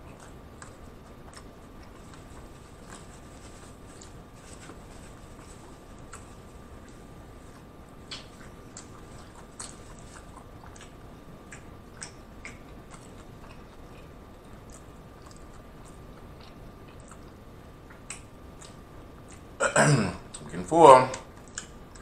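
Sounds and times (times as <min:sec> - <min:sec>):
person chewing food: 0:00.0 - 0:19.6, 0:21.3 - 0:22.0.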